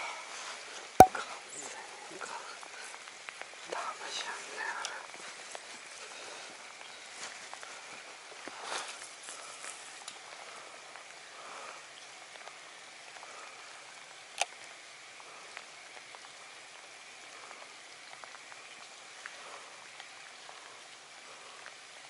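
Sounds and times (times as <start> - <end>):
light rain on water: 0.0 - 22.0.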